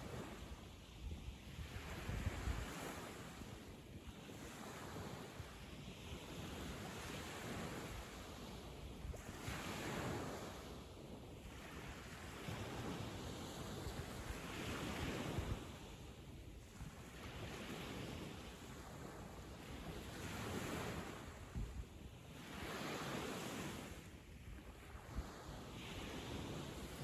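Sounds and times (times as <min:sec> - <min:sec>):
sea waves breaking on beach: 0:00.0 - 0:27.0.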